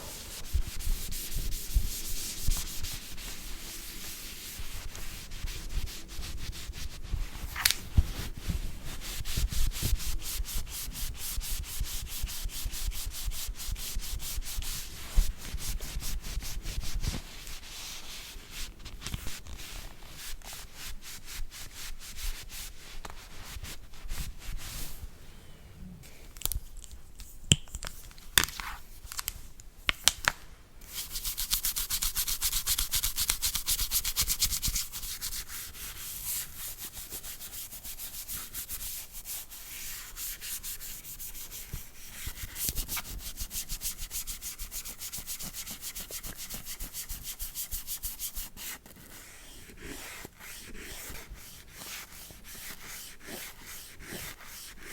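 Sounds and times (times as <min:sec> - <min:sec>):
brushing on device surface: 0:00.0 - 0:25.0, 0:30.9 - 0:54.9.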